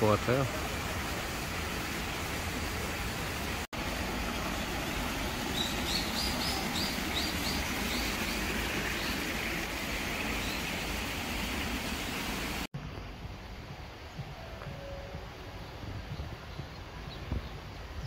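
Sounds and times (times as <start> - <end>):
rushing outdoor background: 0.0 - 18.0.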